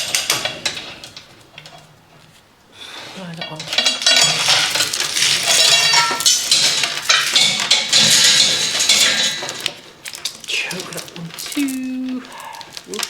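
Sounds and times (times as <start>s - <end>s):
metal tools clanking together: 0.0s - 2.3s, 3.4s - 11.7s.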